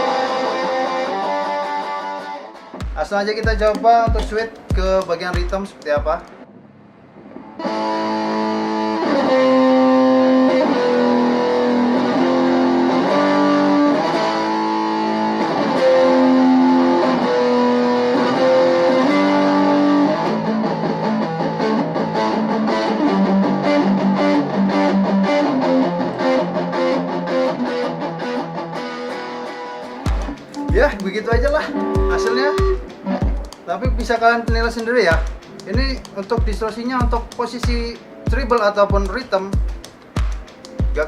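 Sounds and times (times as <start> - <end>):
distorted electric guitar: 0.0 - 41.0.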